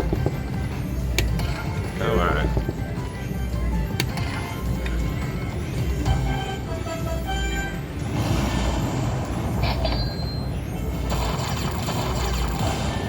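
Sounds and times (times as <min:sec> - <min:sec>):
low casino floor rumble: 0:00.0 - 0:13.0
slot machine chime notes: 0:00.4 - 0:13.0.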